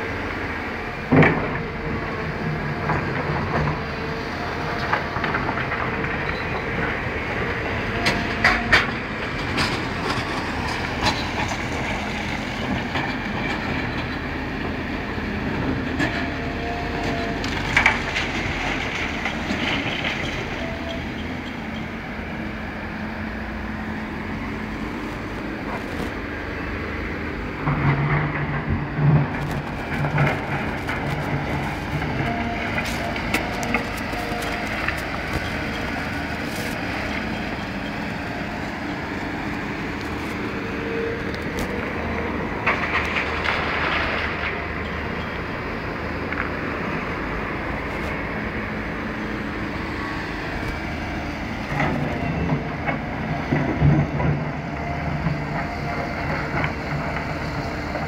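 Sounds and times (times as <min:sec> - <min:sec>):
construction machinery rumbling: 0:00.0 - 0:58.0.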